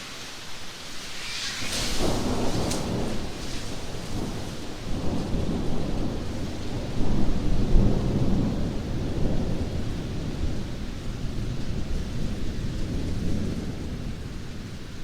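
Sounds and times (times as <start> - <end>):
heavy rain: 0.0 - 15.0
thunder rumbling: 0.9 - 15.0.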